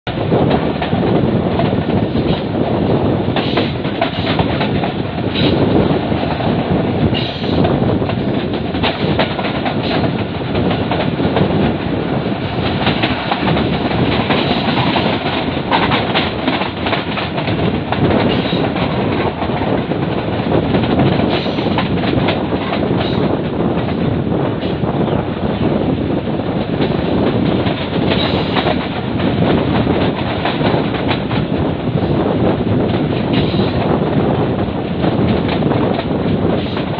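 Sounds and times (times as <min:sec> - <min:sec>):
train wheels rumbling on rails: 0:00.0 - 0:36.9
clacks over rail joints: 0:00.1 - 0:25.2, 0:26.2 - 0:36.9.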